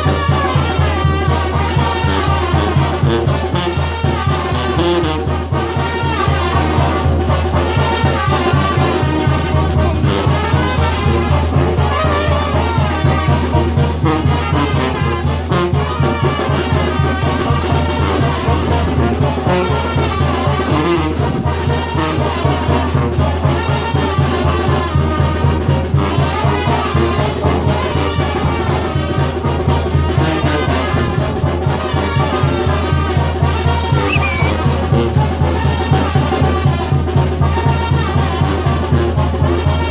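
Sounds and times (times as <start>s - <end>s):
brass band music: 0.0s - 39.9s.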